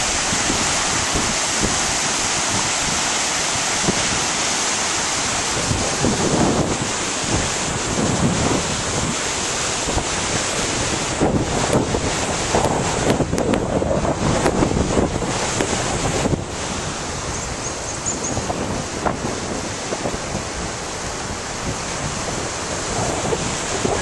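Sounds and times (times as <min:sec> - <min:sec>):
river rapids rushing: 0:00.0 - 0:24.0
wind on microphone: 0:00.0 - 0:24.0.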